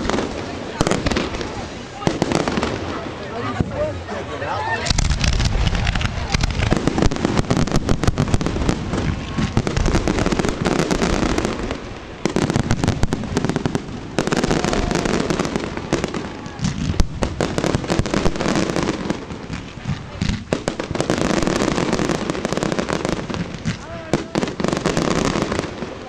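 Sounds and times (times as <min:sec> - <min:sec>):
fireworks bangs and crackles: 0:00.0 - 0:04.0, 0:04.8 - 0:26.0.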